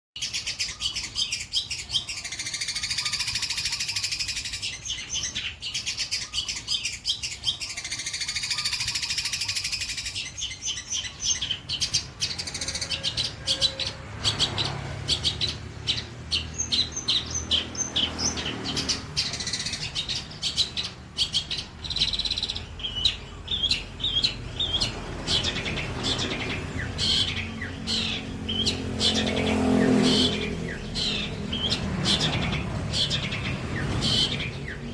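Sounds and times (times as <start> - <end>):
bird sharp repeated chirps: 0.2 - 34.9
bird singing warbling trills: 0.2 - 34.9.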